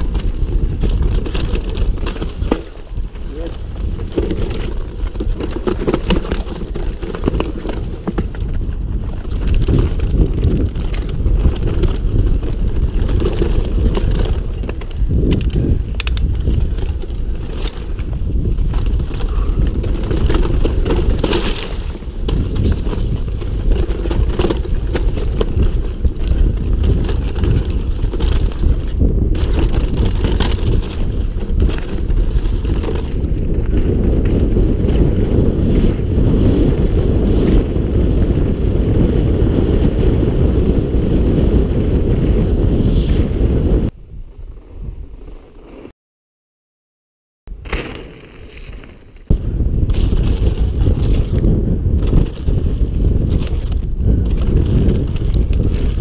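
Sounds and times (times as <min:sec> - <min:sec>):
tyres over dirt and stones: 0:00.0 - 0:40.1, 0:47.5 - 0:56.0
bike rattling and knocking: 0:00.0 - 0:42.7, 0:47.5 - 0:56.0
wind on microphone: 0:00.0 - 0:45.9, 0:47.5 - 0:56.0.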